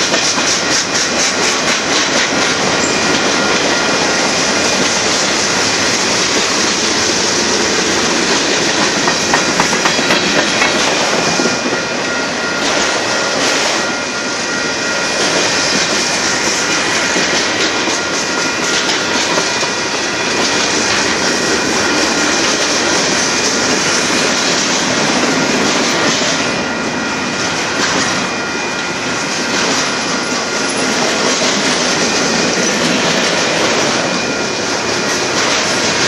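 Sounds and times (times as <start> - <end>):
clickety-clack over rail joints: 0.0 - 36.0
train wheels rumbling on rails: 0.0 - 36.0.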